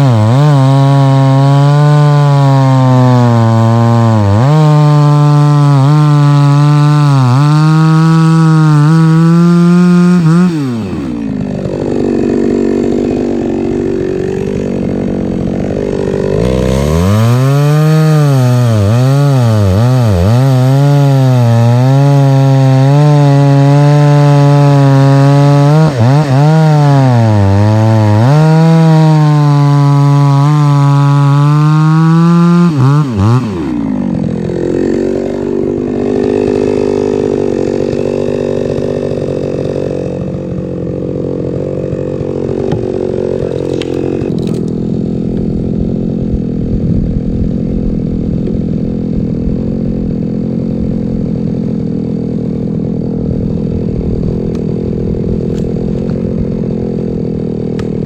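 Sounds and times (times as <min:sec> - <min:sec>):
chainsaw cutting logs: 0:00.0 - 0:58.0.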